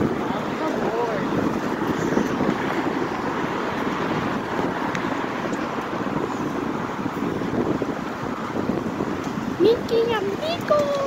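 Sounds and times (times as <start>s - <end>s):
cars idling and passing: 0.0s - 11.0s
wind rumbling on microphone: 0.0s - 11.0s.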